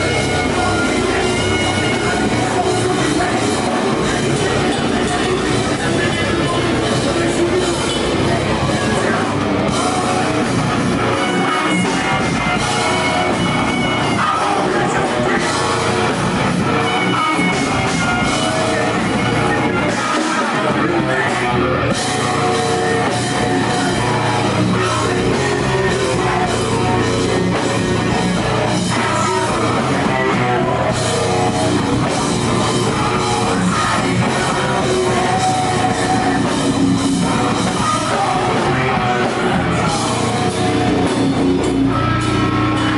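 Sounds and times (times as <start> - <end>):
drum kit: 0.0 - 42.9
electric guitar: 0.0 - 42.9
live rock band playing: 0.0 - 42.9.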